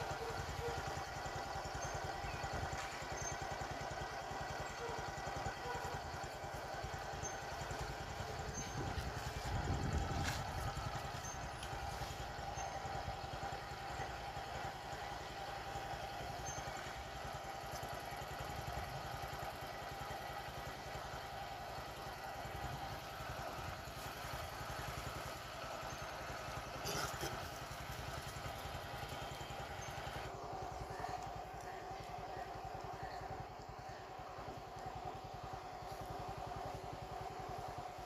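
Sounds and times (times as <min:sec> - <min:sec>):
motor idling: 0:00.0 - 0:38.0.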